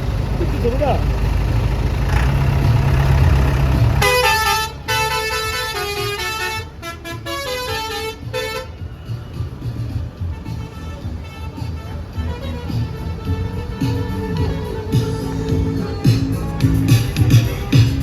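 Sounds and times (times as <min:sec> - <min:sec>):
tractor engine rumbling: 0:00.0 - 0:18.0.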